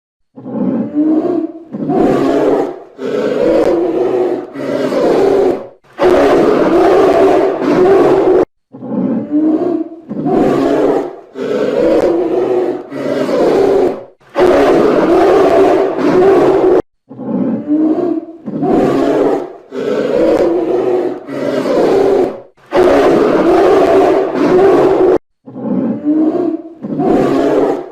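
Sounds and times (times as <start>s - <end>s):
bears roaring and growling: 0.3s - 27.9s.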